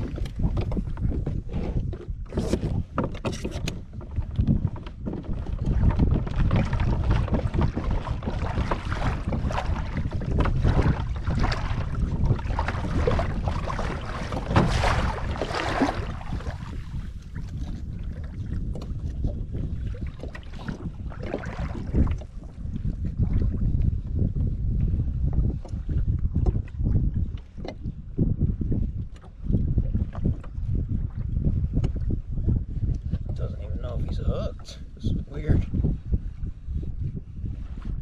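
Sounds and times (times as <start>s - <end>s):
water splashing against hull: 0.0s - 38.0s
wind buffeting microphone: 0.0s - 38.0s.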